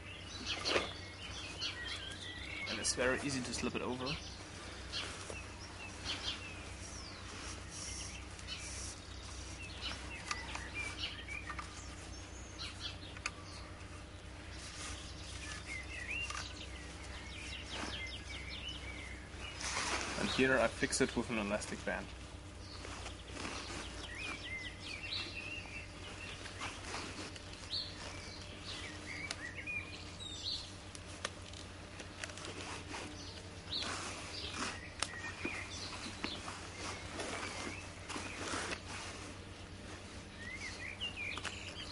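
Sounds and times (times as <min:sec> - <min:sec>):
small birds chirping: 0:00.0 - 0:41.9
rustles and knocks of handling: 0:00.4 - 0:41.9.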